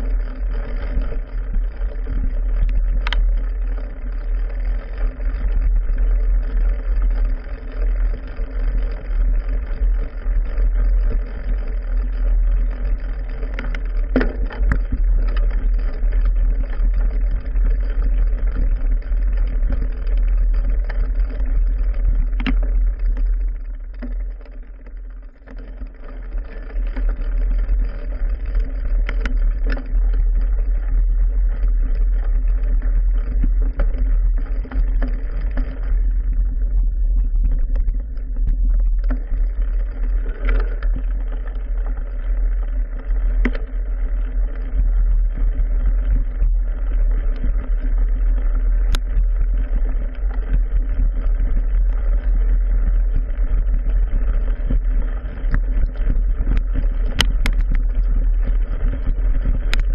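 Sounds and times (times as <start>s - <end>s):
bike vibration rumble: 0.0s - 59.9s.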